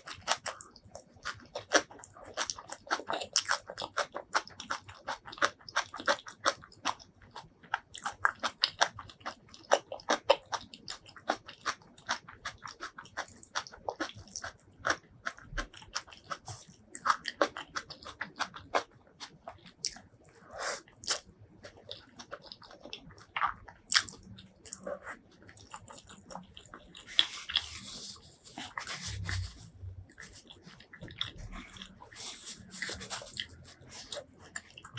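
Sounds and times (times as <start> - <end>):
chewing crunchy food: 0.0 - 34.9.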